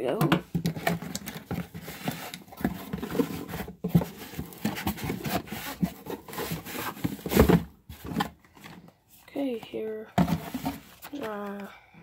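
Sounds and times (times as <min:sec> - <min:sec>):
cardboard knocks and crinkles: 0:00.2 - 0:08.8, 0:10.2 - 0:11.5.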